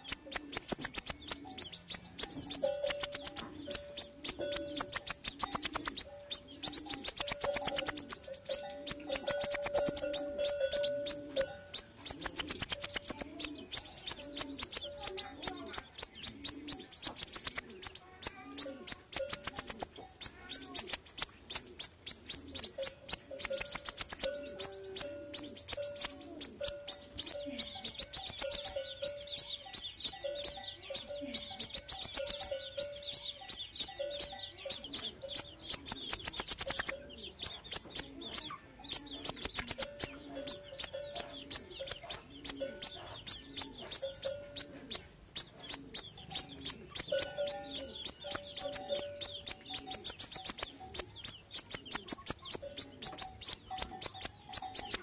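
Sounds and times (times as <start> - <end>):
bird chirping high and sharp: 0.0 - 55.0.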